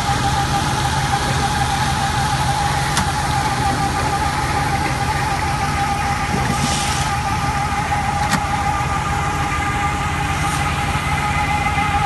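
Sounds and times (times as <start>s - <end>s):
high machine whine: 0.0s - 12.0s
tractor engine running: 0.0s - 12.0s.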